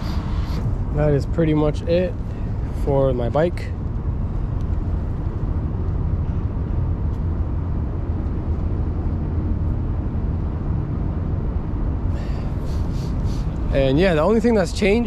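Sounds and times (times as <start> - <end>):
street noise rumble: 0.0 - 15.0.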